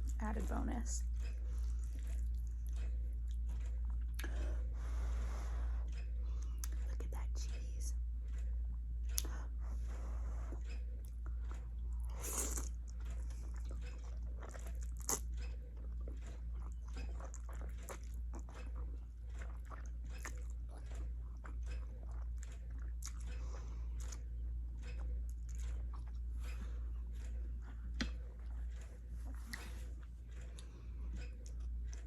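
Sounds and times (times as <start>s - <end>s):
wet chewing and mouth clicks: 1.1s - 4.6s, 5.9s - 7.5s, 10.5s - 32.0s.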